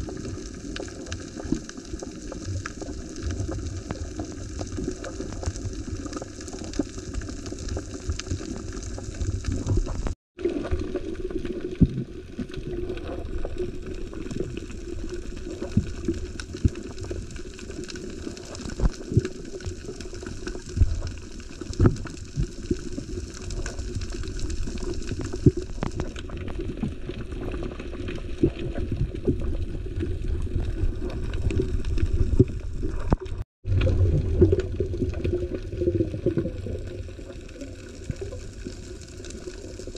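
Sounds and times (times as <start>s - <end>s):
muffled underwater rushing water: 0.0s - 39.9s.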